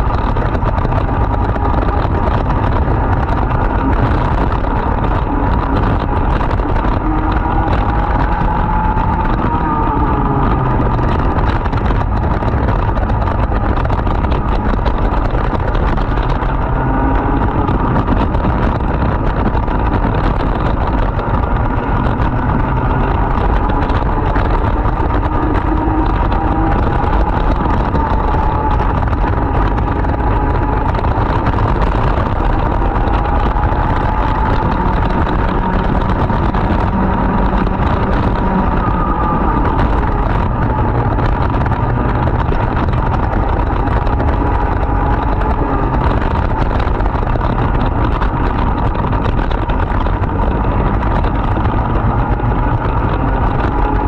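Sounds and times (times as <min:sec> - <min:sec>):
steady rushing noise: 0:00.0 - 0:54.0
two-stroke kart engine: 0:00.0 - 0:54.0.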